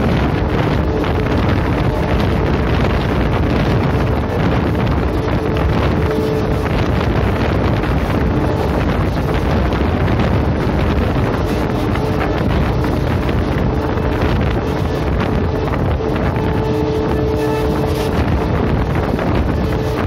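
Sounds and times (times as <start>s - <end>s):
train coaches rumbling on track: 0.0s - 20.0s
wind buffeting microphone: 0.0s - 20.0s.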